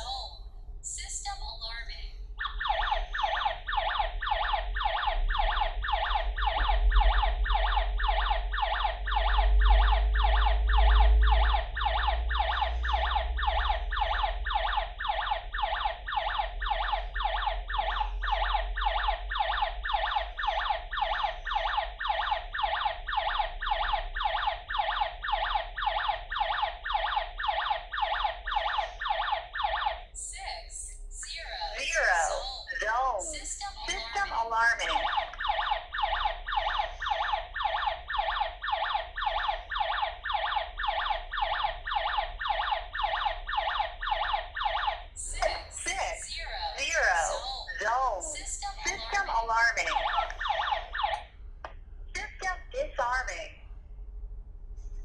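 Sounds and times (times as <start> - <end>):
pulsing electronic alarm siren: 0.0 - 51.4.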